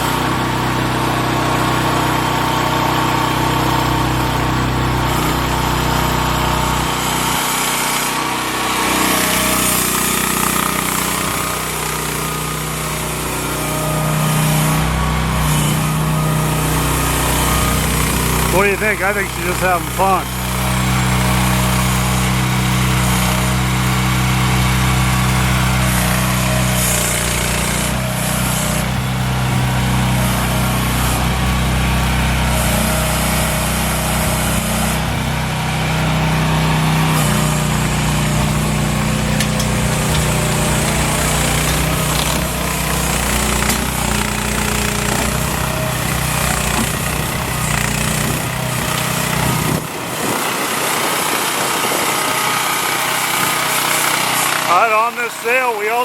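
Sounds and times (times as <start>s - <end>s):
mini excavator engine running: 0.0s - 56.0s.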